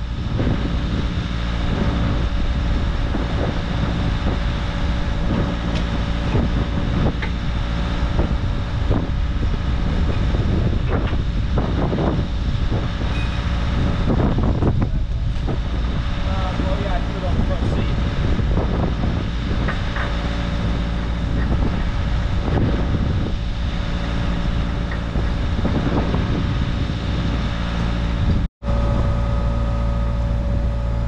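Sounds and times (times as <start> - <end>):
diesel engine idling: 0.0 - 31.0
wind buffeting microphone: 0.0 - 31.0.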